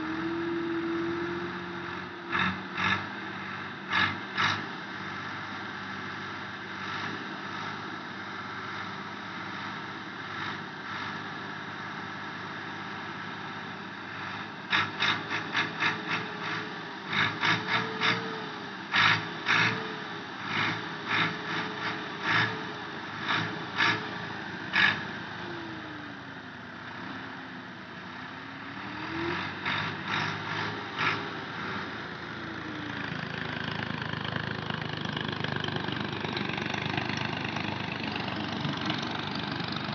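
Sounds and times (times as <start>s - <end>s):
tractor engine revving: 0.0s - 27.4s, 28.0s - 39.9s.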